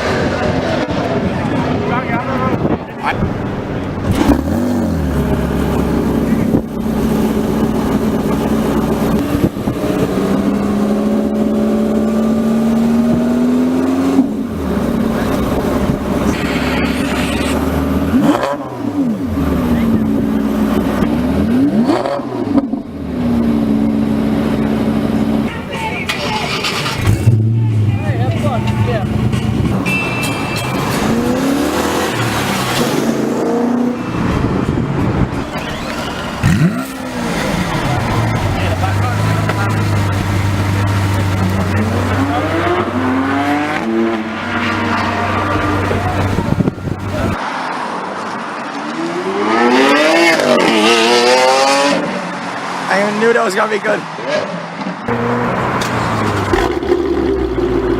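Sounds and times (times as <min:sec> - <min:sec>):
sports car engine accelerating: 0:00.0 - 0:25.5, 0:26.3 - 0:29.8, 0:30.8 - 0:47.4, 0:48.6 - 0:52.9, 0:54.8 - 0:57.9.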